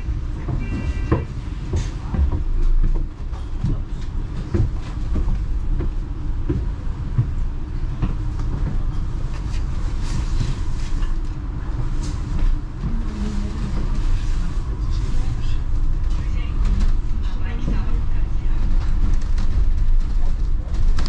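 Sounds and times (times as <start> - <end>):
bus engine and road rumble: 0.0 - 21.0
bodywork rattles and knocks: 0.1 - 13.0, 15.6 - 21.0.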